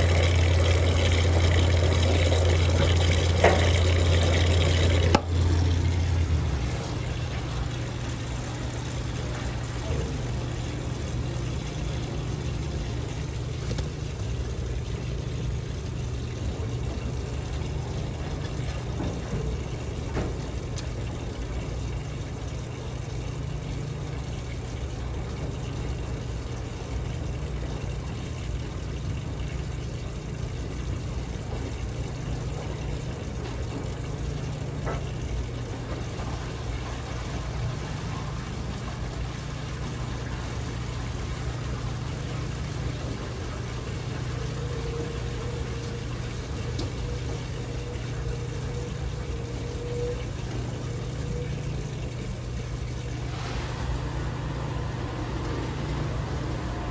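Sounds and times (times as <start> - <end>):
washing machine motor hum: 0.0 - 56.9
water and laundry swishing: 0.0 - 56.9.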